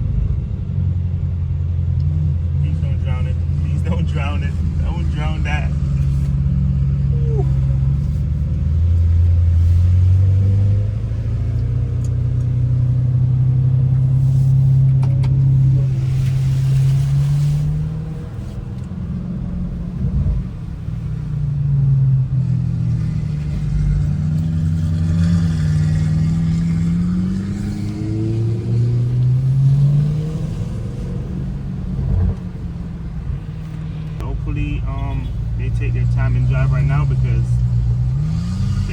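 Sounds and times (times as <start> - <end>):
car engine drone: 0.0 - 38.9.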